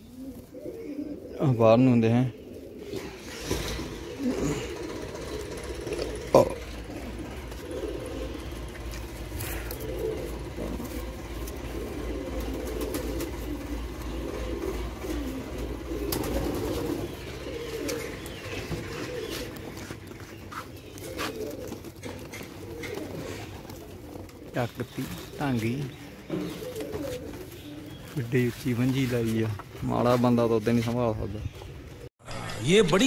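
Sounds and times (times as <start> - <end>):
pigeons cooing: 0.0 - 32.1.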